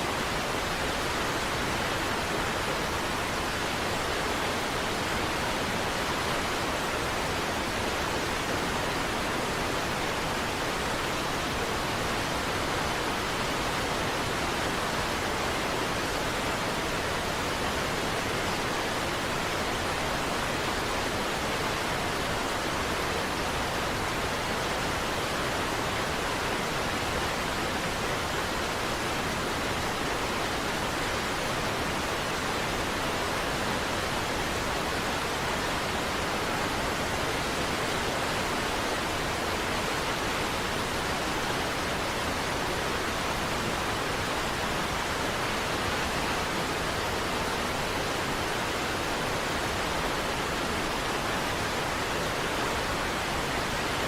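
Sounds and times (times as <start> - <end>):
large waterfall rushing: 0.0 - 54.0.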